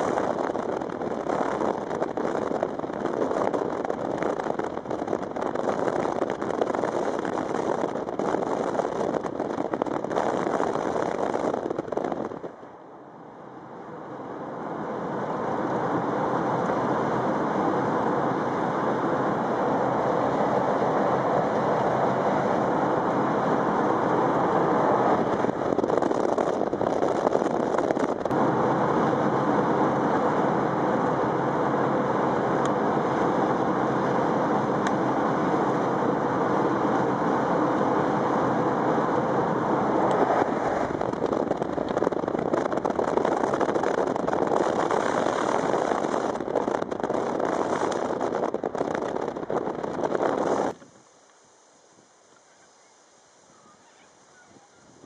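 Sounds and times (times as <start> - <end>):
car engine and tyre noise: 0.0 - 53.4.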